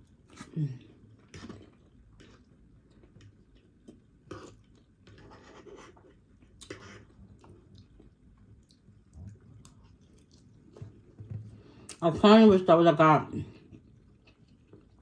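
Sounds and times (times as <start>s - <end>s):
quiet chewing: 0.0s - 12.0s, 13.5s - 15.0s.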